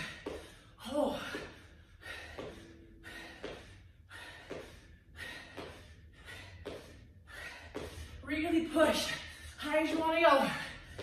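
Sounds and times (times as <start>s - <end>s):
woman breathing hard: 0.0s - 9.7s, 10.3s - 11.0s.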